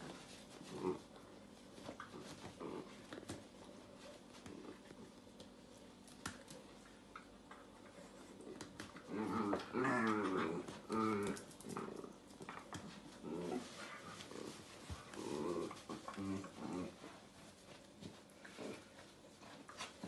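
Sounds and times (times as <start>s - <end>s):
dogs growling in play: 0.0s - 6.0s, 6.8s - 20.0s.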